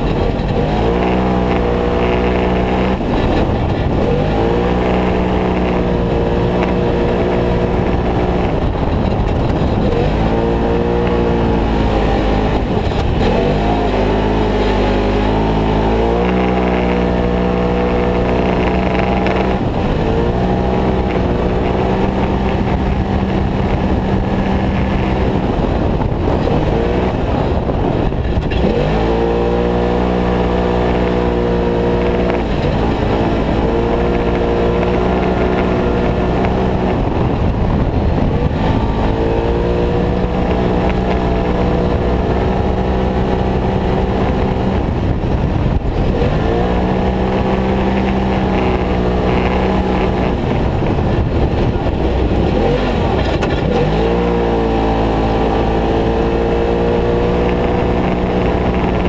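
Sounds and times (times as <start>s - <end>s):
engine revving hard: 0.0s - 59.0s.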